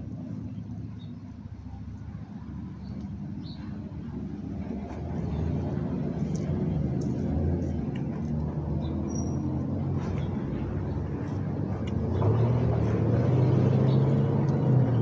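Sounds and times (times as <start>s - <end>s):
motor vehicle engine rumble: 0.0s - 15.0s.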